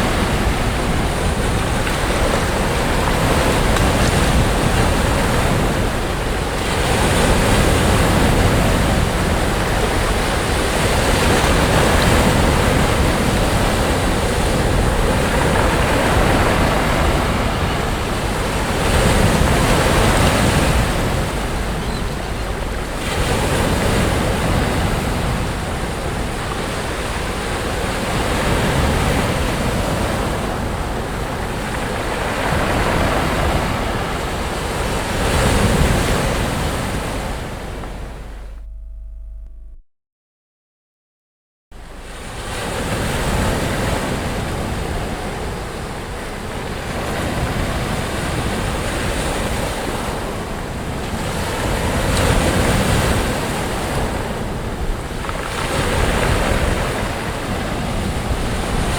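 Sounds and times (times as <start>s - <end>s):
sea waves breaking on beach: 0.0s - 38.6s, 41.8s - 58.9s.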